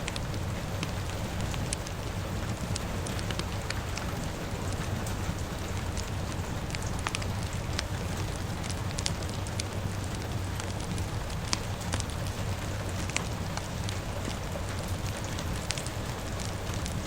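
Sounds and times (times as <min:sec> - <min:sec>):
burning wood crackling: 0:00.0 - 0:17.0
rain hissing: 0:00.0 - 0:17.0.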